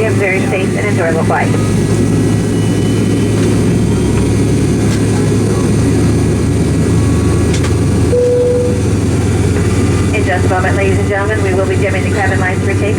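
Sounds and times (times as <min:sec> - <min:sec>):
airliner cabin hum: 0:00.0 - 0:12.9.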